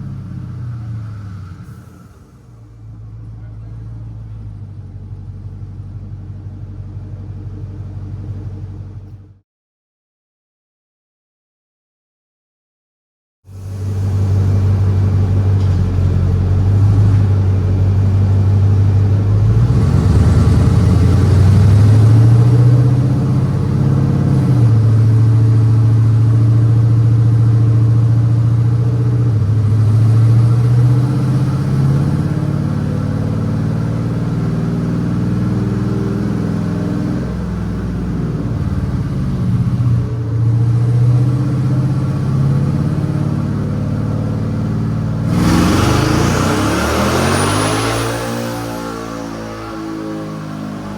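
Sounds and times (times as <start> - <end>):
truck engine accelerating: 0.0 - 9.2, 13.5 - 50.9.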